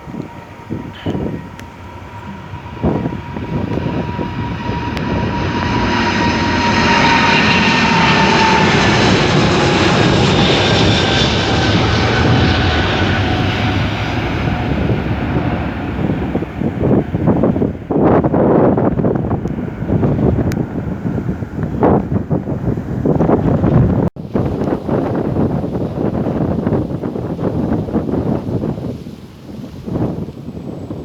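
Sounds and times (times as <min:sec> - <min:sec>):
jet airliner passing: 0:00.0 - 0:31.0
wind gusts on microphone: 0:00.0 - 0:31.0.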